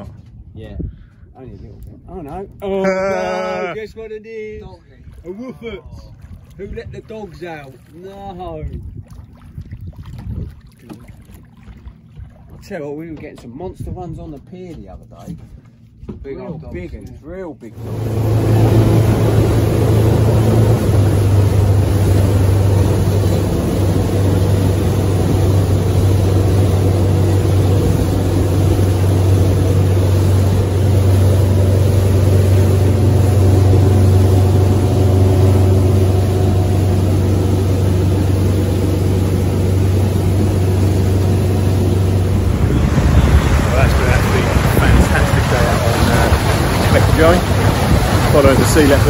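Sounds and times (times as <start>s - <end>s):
boat engine droning: 1.4s - 13.9s, 17.6s - 49.0s
wake rushing and churning: 4.8s - 13.2s, 17.7s - 49.0s.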